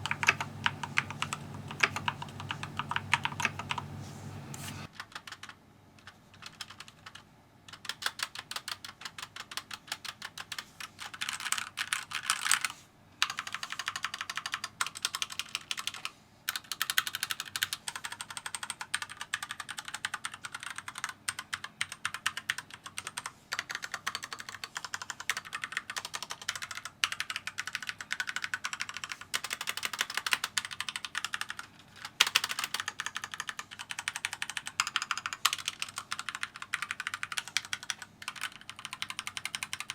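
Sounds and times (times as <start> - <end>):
mechanical keyboard typing: 0.0 - 4.0, 4.6 - 39.9.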